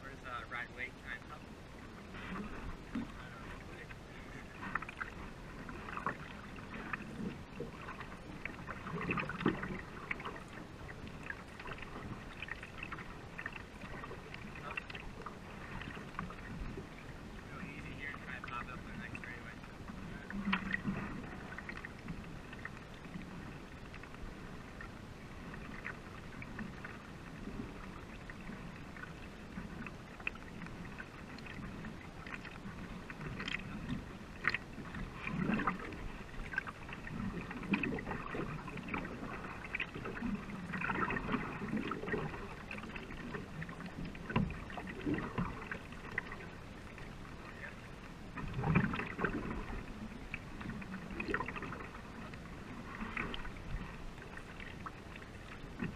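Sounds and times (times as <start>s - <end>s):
paddles splashing in water: 0.0s - 55.9s
water rushing along hull: 0.0s - 55.9s.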